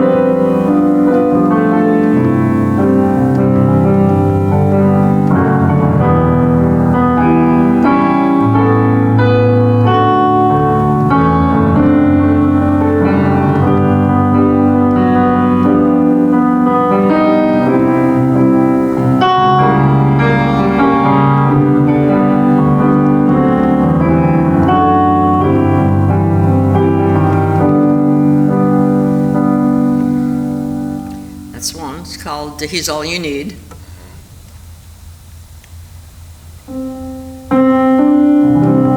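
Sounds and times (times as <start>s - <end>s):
solo piano hymn: 0.0s - 38.9s.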